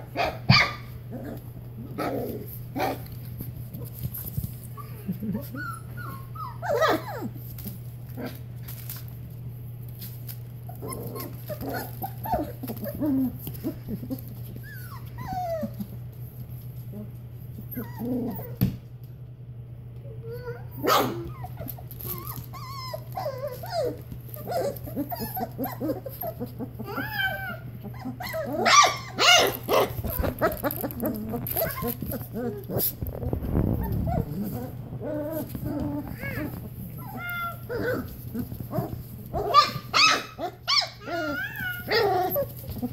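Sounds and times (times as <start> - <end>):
puppies whining and yipping: 0.2 - 1.4, 3.7 - 7.5, 10.6 - 16.1, 17.5 - 18.7, 20.2 - 42.9.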